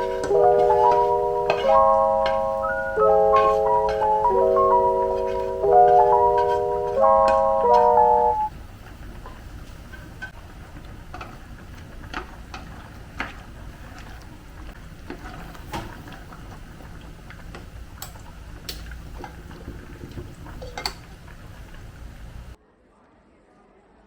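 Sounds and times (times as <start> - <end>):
low steady hum: 0.0 - 22.6.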